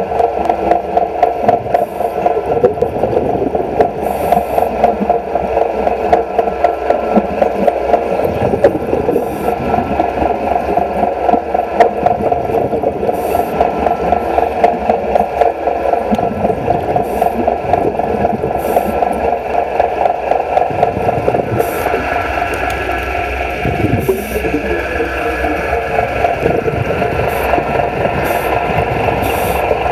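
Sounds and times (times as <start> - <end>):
bubbles hissing: 0.0 - 29.9
welding arc crackling underwater: 0.0 - 29.9.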